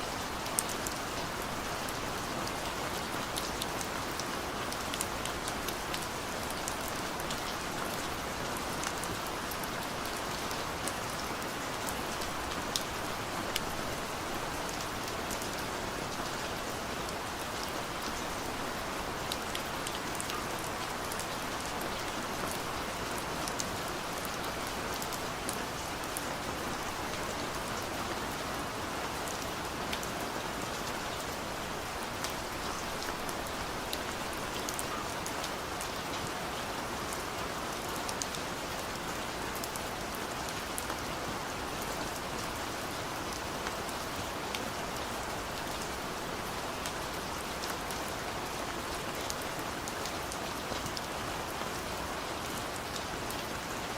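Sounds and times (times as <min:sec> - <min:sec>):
heavy rain: 0:00.0 - 0:53.9.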